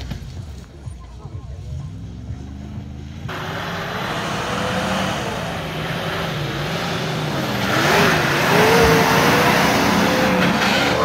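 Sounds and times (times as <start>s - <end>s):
tyres through mud: 0.0s - 11.0s
engine revving: 1.6s - 11.0s.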